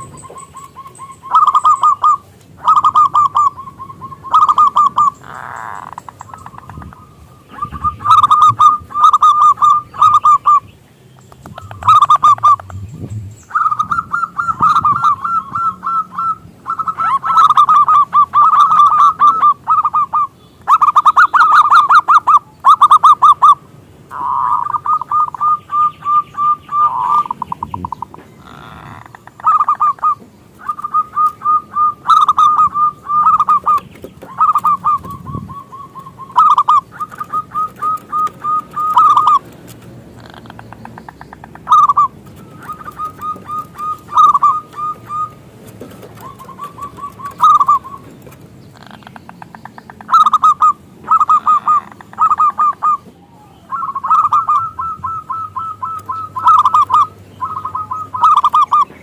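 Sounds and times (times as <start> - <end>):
dove cooing: 0.0 - 10.7, 11.4 - 59.0.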